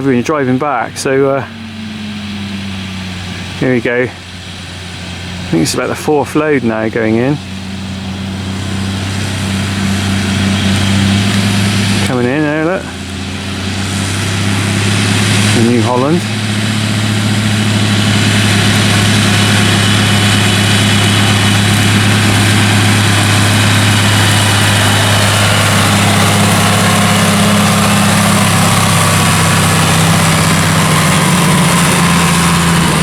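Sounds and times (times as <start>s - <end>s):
heavy farm machinery engines: 0.0s - 33.0s
low hum: 0.0s - 33.0s.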